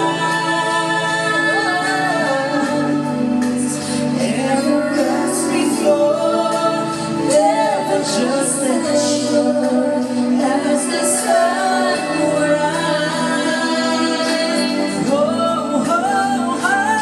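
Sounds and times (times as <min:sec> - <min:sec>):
person singing a melodic song: 0:00.0 - 0:17.0
steady musical accompaniment: 0:00.0 - 0:17.0.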